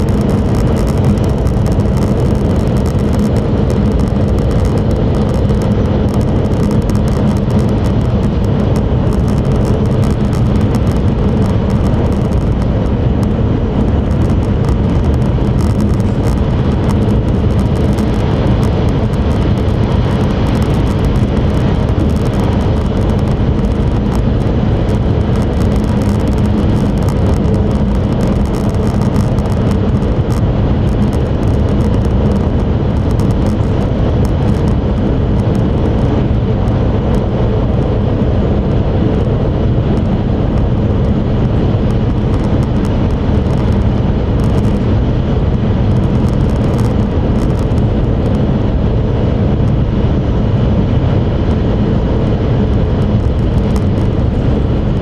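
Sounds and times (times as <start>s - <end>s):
train cabin rumble with hum: 0.0s - 55.0s.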